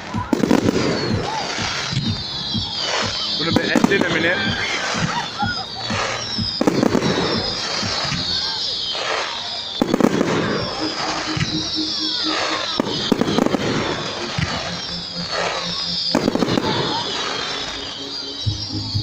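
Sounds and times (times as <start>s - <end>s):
fireworks crackling: 0.0s - 19.0s
fireworks shells bursting: 0.0s - 19.0s
high-pitched falling whistles: 0.0s - 19.0s.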